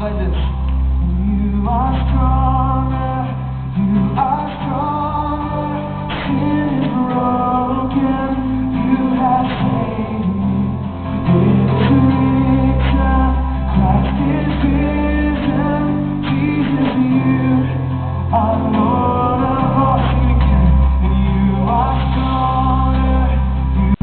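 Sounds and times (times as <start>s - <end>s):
acoustic guitar: 0.0s - 24.0s
low bass notes: 0.0s - 24.0s
man singing: 0.0s - 24.0s.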